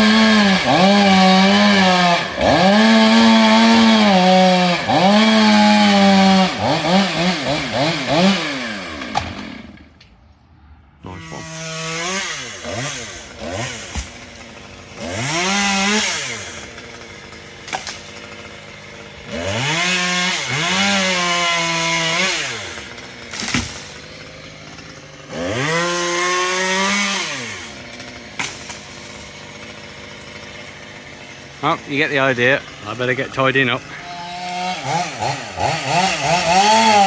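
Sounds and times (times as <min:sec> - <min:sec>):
chainsaw revving: 0:00.0 - 0:10.0, 0:10.8 - 0:37.0.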